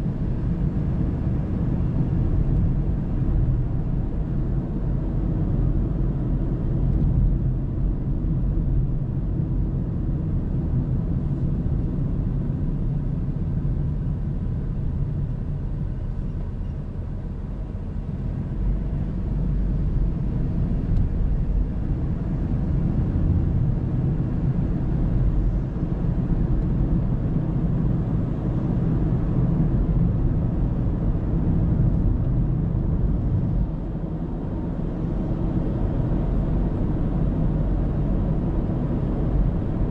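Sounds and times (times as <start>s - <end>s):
car interior road noise: 0.0s - 39.9s.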